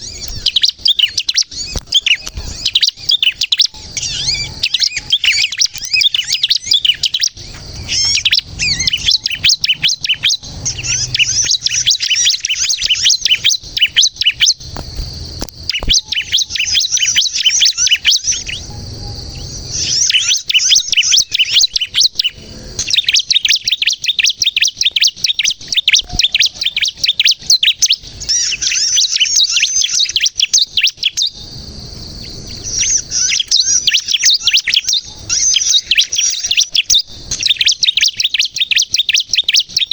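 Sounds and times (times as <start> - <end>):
bird high-pitched chirping song: 0.0 - 39.9.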